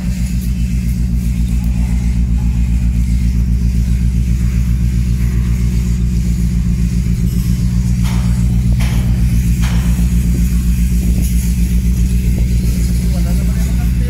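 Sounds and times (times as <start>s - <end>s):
ship diesel engine throbbing: 0.0s - 14.0s.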